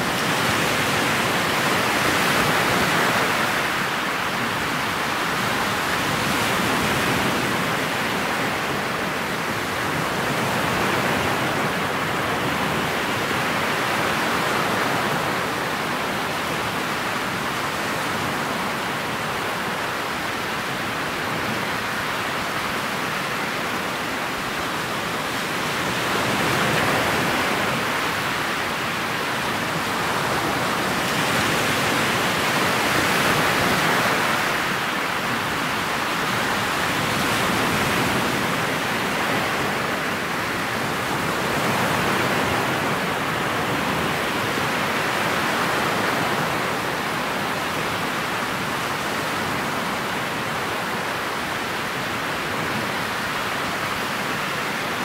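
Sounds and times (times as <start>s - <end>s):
water rushing past boat bow: 0.0s - 55.0s.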